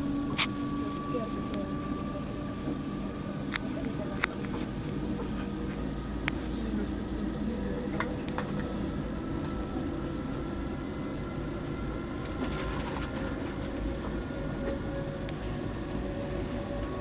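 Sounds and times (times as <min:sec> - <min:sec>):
faint steady whine: 0:00.0 - 0:17.0
train coach rumbling: 0:00.0 - 0:17.0.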